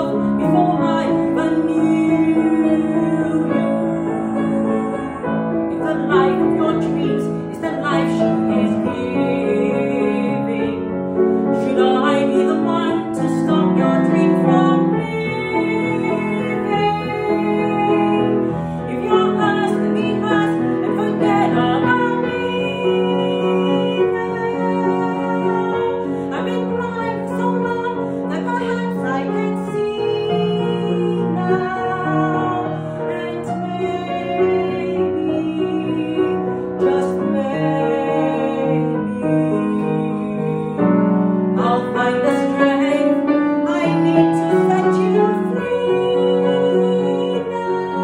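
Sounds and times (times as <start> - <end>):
grand piano: 0.0 - 48.0
woman singing with vibrato: 0.0 - 48.0.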